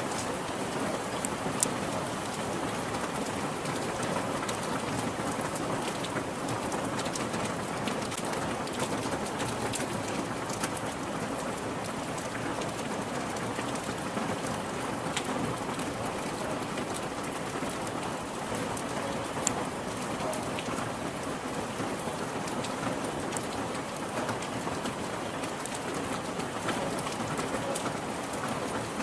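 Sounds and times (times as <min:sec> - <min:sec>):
rain on a hard surface: 0:00.0 - 0:29.0.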